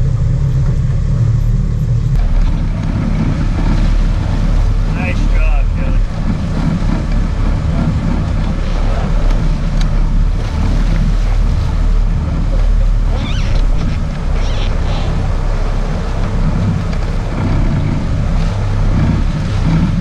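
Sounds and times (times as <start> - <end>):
boat engines droning: 0.0 - 20.0
water rushing past hull: 0.0 - 20.0
wind: 0.0 - 20.0.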